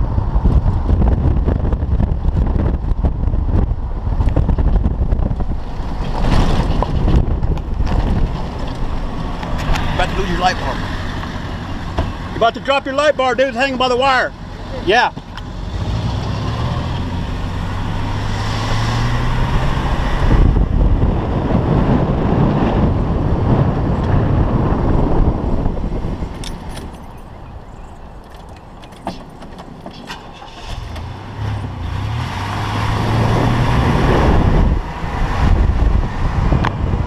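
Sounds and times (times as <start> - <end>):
tyres on gravel road: 0.0 - 37.0.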